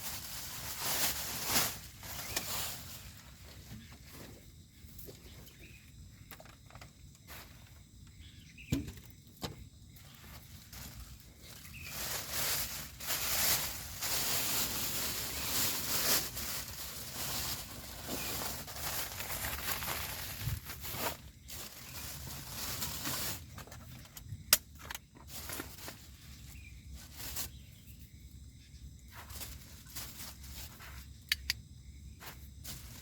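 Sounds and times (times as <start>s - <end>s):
rustling and handling noise: 0.0s - 8.2s, 10.0s - 28.1s, 29.0s - 33.0s
faint insect chirring: 1.5s - 33.0s.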